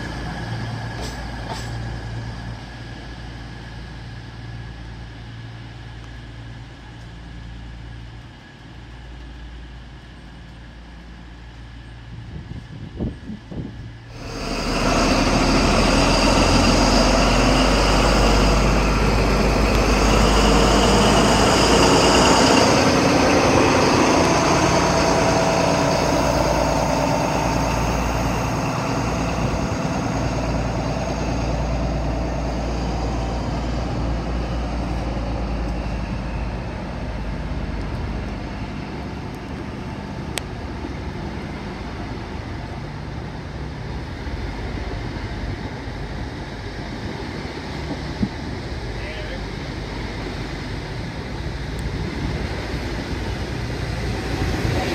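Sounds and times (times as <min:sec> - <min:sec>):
diesel train engine drone: 0:00.0 - 0:54.9.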